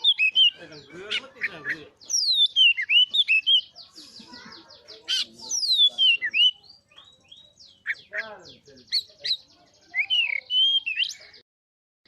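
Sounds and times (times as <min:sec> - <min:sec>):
bird whistled song: 0:00.0 - 0:04.3, 0:05.1 - 0:11.4
bird chattering notes: 0:00.0 - 0:11.4.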